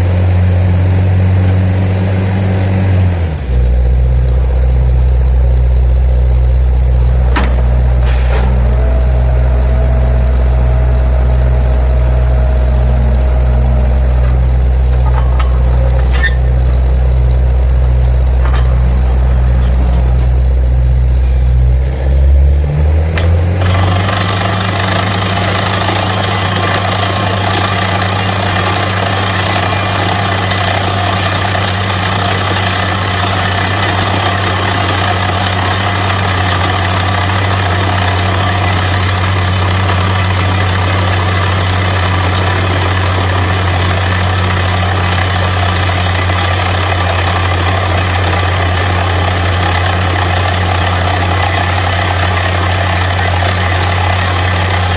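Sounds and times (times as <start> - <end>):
drilling rig noise: 0.0 - 54.9
heavy engine running: 0.0 - 54.9.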